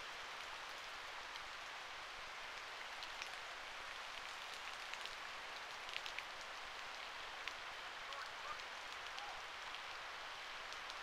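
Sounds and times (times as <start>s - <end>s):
steady rain hiss: 0.0s - 11.0s
raindrop ticks on microphone: 0.4s - 1.6s, 2.5s - 11.0s.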